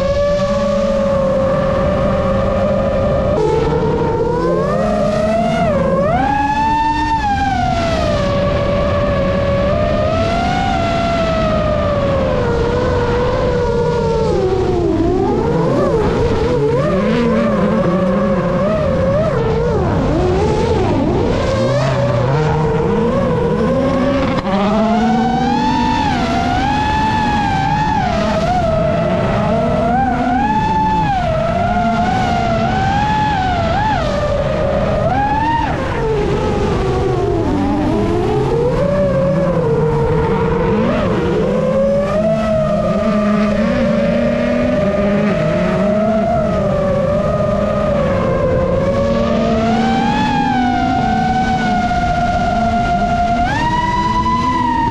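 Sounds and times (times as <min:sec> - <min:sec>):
drone motors and propellers whining: 0:00.0 - 0:54.9
rally car engine revving hard: 0:00.0 - 0:54.9.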